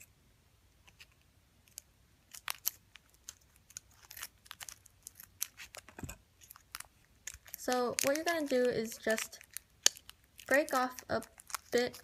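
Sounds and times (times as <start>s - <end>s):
plastic packet crinkling: 1.7s - 12.0s
scissors snipping plastic: 1.7s - 12.0s.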